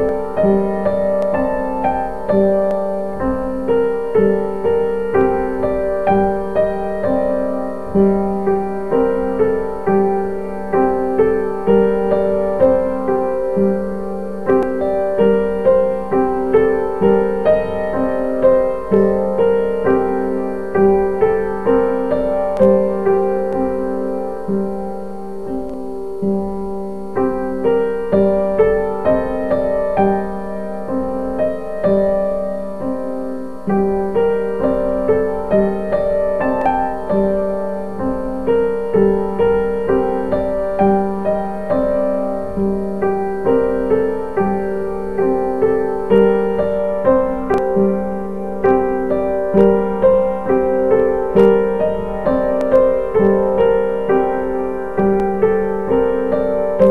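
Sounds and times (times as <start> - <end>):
piano music: 0.0 - 56.9.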